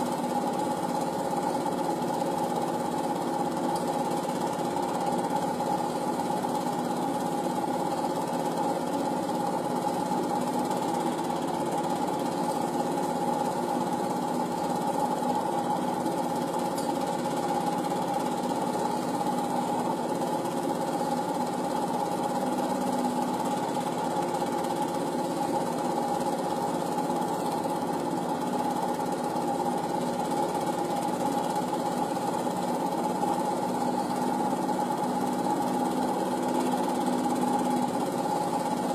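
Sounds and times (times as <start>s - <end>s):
film projector clattering: 0.0s - 38.9s.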